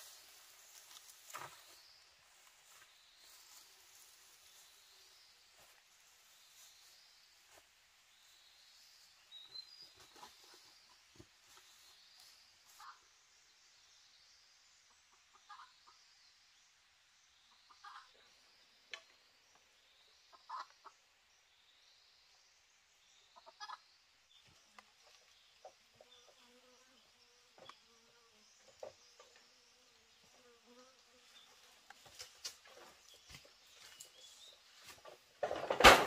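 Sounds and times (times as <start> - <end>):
faint insect hum: 0.0 - 36.0.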